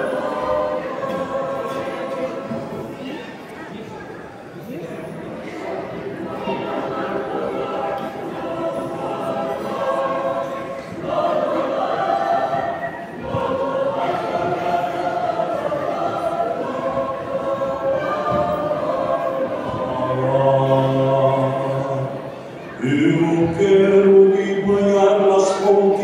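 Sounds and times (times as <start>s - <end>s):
mixed choir singing: 0.0s - 3.5s, 5.2s - 26.0s.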